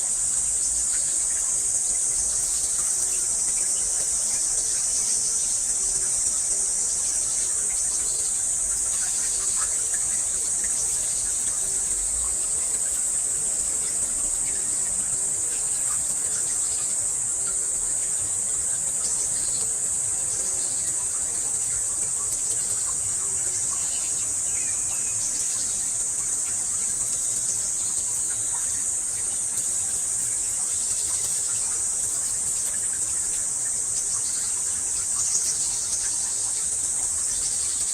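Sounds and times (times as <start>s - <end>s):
high-pitched insect chorus: 0.0s - 37.9s.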